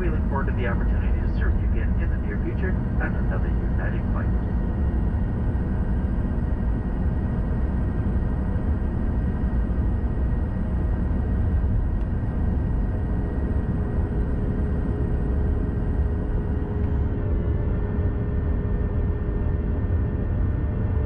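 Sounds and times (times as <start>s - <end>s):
cabin air noise: 0.0s - 17.1s
aircraft engines idling: 0.0s - 19.7s
faint high whine: 0.0s - 21.0s.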